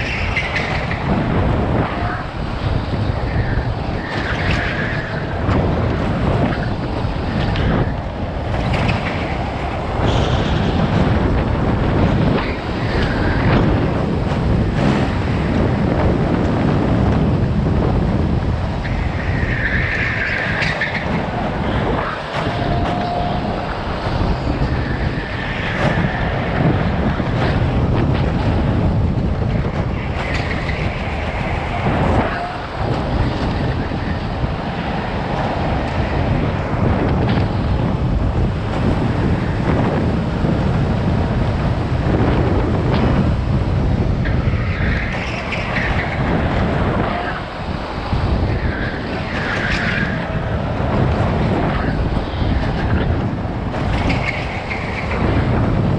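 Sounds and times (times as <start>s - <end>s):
wind over microphone: 0.0s - 55.9s.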